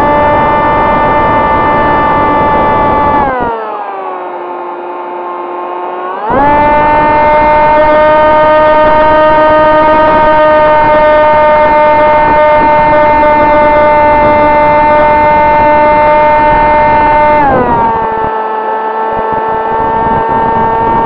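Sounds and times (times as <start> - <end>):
wind noise: 0.0 - 3.5, 6.3 - 18.4, 19.2 - 21.0
electric motor and propeller whining: 0.0 - 21.0.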